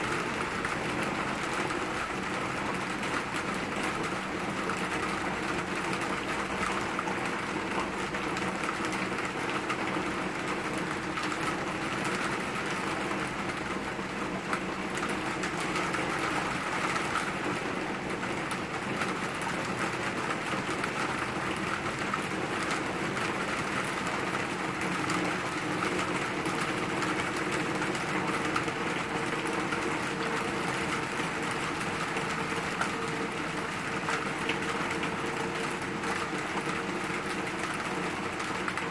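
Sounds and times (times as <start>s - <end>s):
rain falling on trees: 0.0s - 38.9s.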